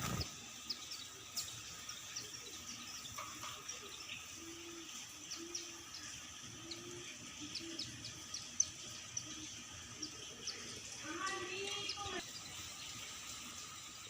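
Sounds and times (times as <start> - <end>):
birds chirping sharply: 0.0 - 14.0.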